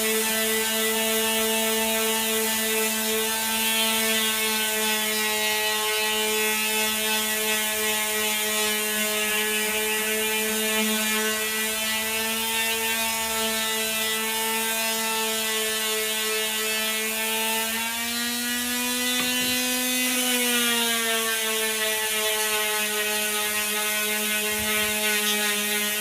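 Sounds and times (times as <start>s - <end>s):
power tool motor running: 0.0s - 26.0s.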